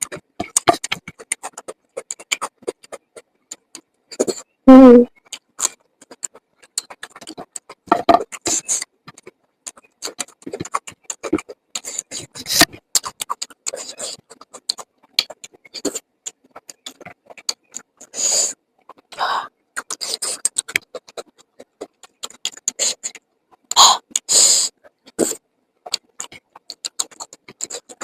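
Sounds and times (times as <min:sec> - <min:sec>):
chewing and lip smacking: 0:00.0 - 0:04.5, 0:05.1 - 0:28.0.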